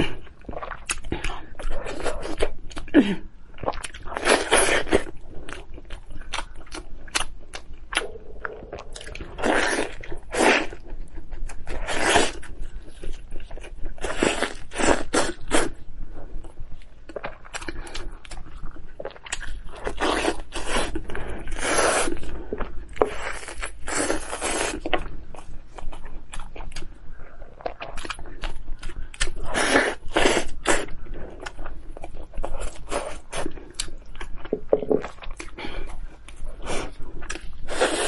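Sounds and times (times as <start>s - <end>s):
person chewing with wet mouth noises: 0.0s - 38.0s.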